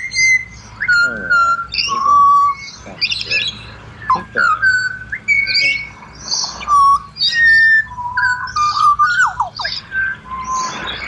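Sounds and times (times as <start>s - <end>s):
birds singing fluted whistles: 0.0s - 11.0s
harsh bird chattering: 0.0s - 11.0s.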